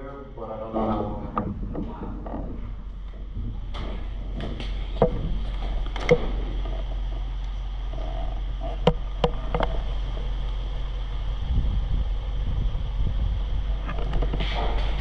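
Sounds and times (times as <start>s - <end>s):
low wind rumble on microphone: 0.0s - 15.0s.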